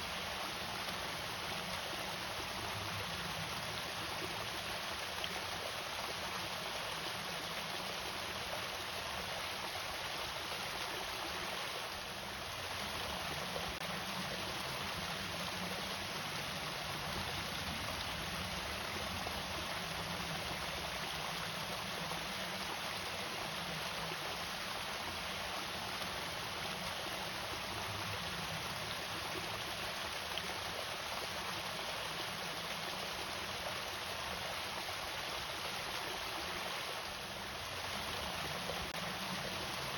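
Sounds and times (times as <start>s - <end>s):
water splashing over small waterfall: 0.0s - 39.9s.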